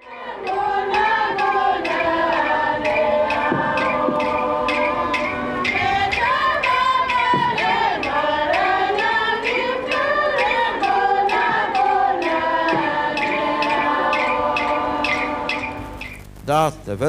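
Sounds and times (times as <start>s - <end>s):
group of people singing: 0.0s - 16.2s
steady struck beat: 0.0s - 16.9s.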